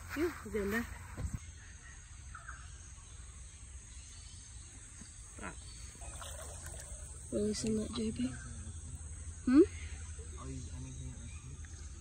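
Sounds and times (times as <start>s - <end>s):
insects chirring: 0.0s - 12.0s
bird chirp: 0.1s - 12.0s.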